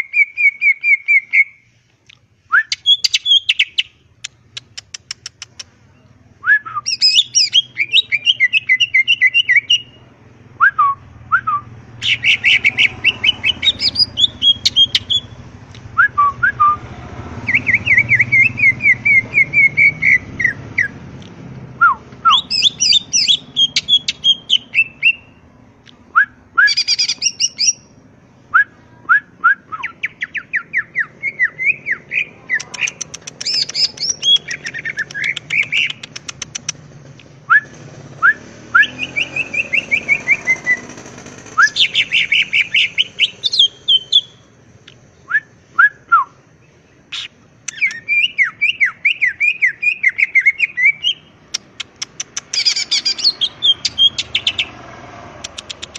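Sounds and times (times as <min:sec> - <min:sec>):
bird singing trills and whistles: 0:00.0 - 0:01.7, 0:02.5 - 0:10.0, 0:10.6 - 0:15.4, 0:17.4 - 0:21.0, 0:21.8 - 0:25.4, 0:26.1 - 0:36.8, 0:37.5 - 0:44.5, 0:45.2 - 0:54.8.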